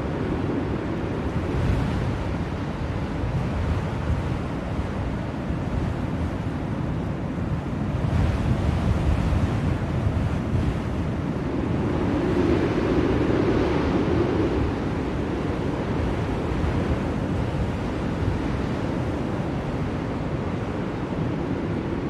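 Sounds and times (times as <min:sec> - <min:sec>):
blizzard wind rumbling: 0:00.0 - 0:22.0.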